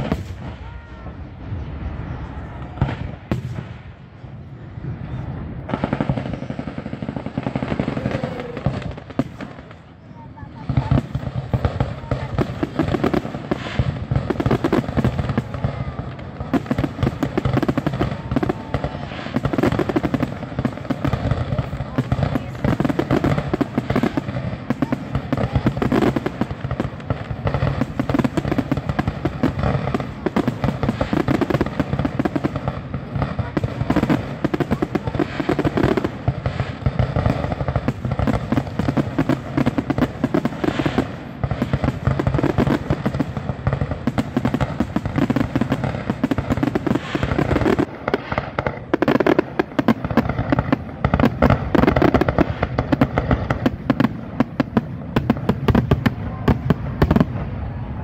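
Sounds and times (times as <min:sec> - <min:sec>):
fireworks launching and bursting: 0:00.0 - 0:58.0.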